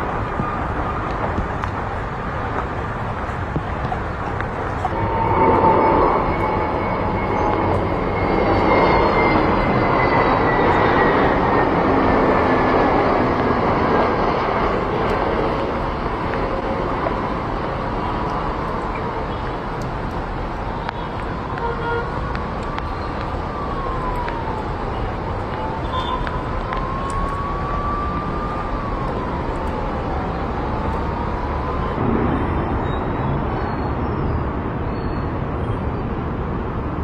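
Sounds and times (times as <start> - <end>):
aircraft engine whine: 0.0 - 37.0.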